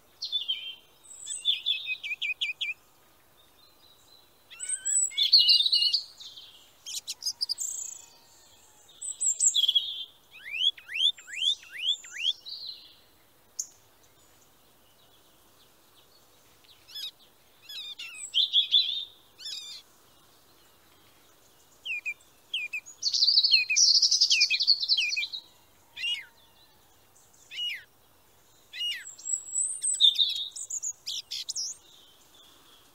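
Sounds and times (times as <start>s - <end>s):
birds chirping and singing: 0.0s - 32.9s.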